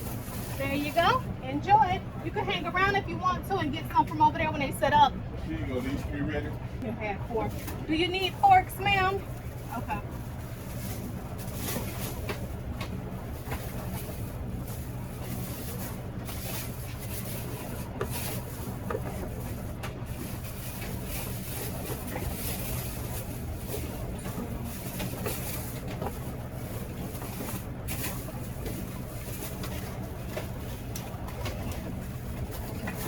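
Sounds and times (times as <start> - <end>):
steady low engine hum: 0.0 - 33.0.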